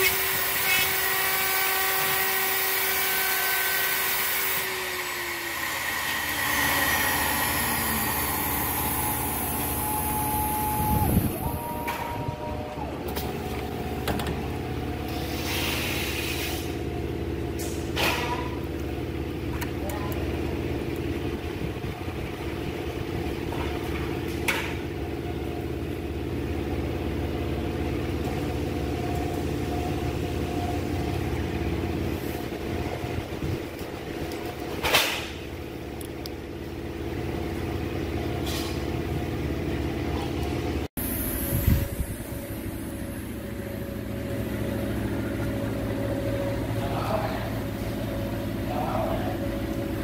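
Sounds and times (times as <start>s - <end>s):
workshop machinery humming: 0.0s - 50.0s.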